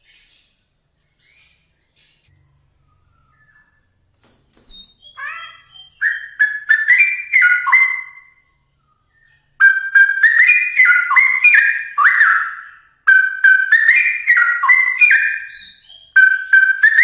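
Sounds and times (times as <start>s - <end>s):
bird singing whistled notes: 1.1s - 17.0s.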